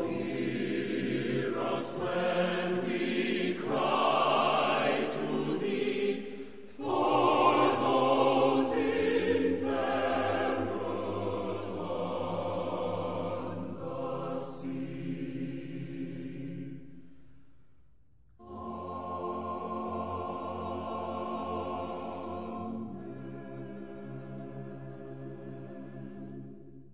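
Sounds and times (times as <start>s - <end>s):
choral music: 0.0s - 26.9s.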